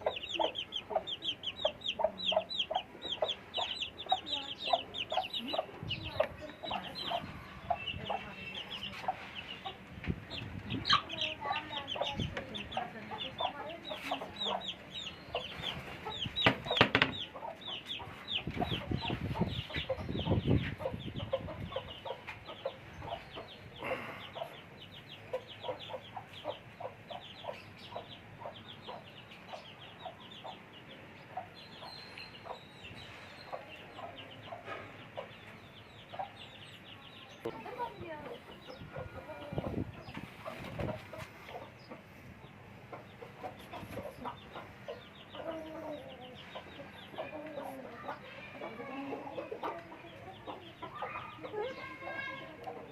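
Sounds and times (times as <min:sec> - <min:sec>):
chickens clucking: 0:00.0 - 0:52.9
chicks peeping: 0:00.0 - 0:52.9.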